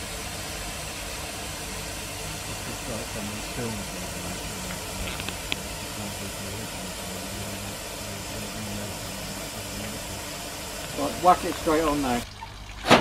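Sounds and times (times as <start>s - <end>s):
steam hissing: 0.0s - 12.3s
faint low hum: 0.0s - 12.9s.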